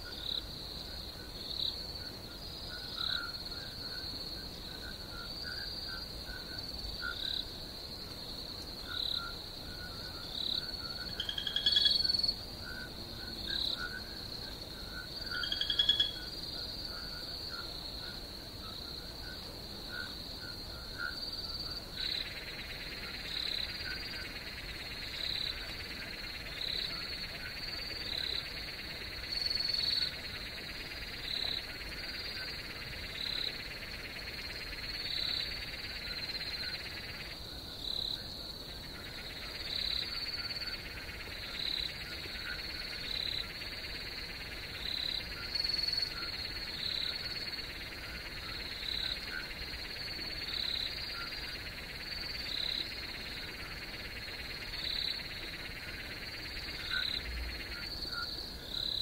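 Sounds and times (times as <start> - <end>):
low dense animal chorus: 0.0 - 59.0.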